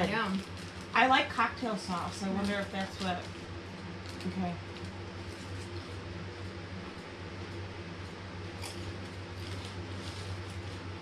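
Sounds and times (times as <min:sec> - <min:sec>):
low room hum: 0:00.0 - 0:11.0
crisps being chewed: 0:02.1 - 0:11.0.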